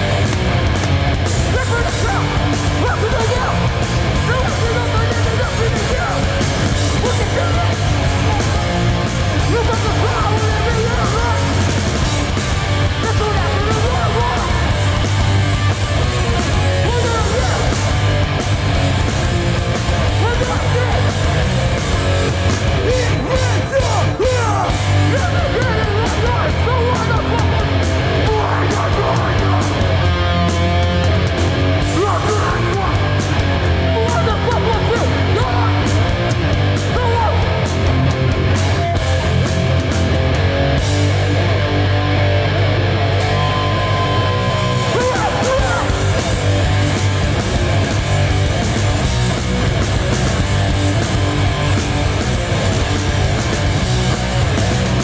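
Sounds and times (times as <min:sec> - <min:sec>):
bass guitar: 0:00.0 - 0:55.0
distorted electric guitars: 0:00.0 - 0:55.0
drums: 0:00.0 - 0:55.0
shouted vocals: 0:01.3 - 0:30.7, 0:31.5 - 0:39.4, 0:42.8 - 0:50.6.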